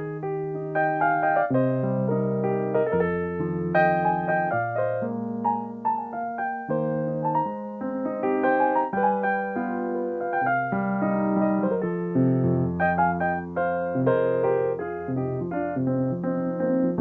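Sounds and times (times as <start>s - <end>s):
solo piano playing: 0.0s - 17.0s.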